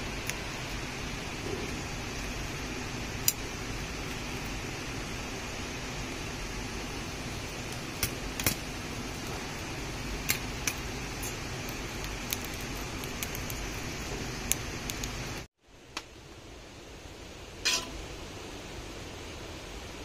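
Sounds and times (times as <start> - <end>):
fire crackling and popping: 0.0 - 16.4
wood fire burning: 0.0 - 20.0.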